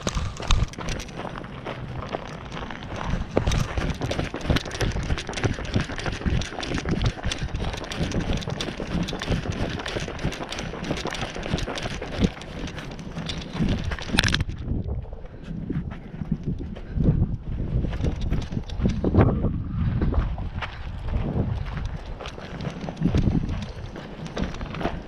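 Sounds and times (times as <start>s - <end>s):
gusty wind buffeting microphone: 0.0s - 25.0s.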